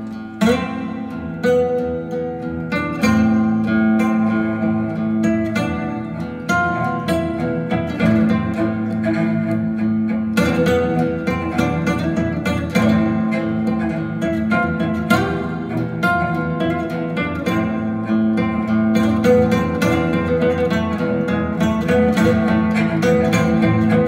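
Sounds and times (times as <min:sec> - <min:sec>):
plucked guitar music over speakers: 0:00.0 - 0:24.0.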